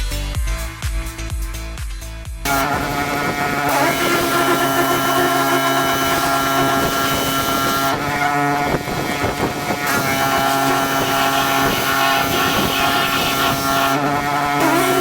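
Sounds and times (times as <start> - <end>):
pressure washer engine running: 2.5 - 15.0
water spray hissing: 2.5 - 15.0.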